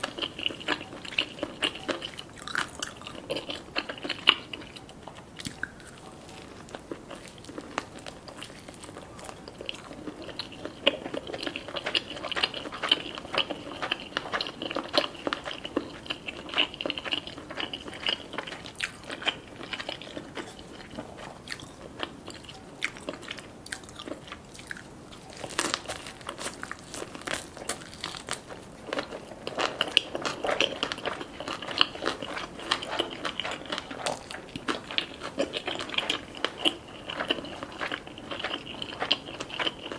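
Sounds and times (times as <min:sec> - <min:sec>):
crunching and chewing food: 0:00.0 - 0:39.9.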